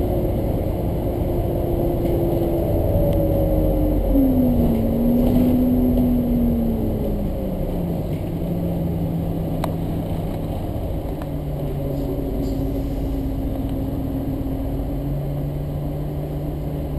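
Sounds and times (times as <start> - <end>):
bus engine humming: 0.0 - 16.9.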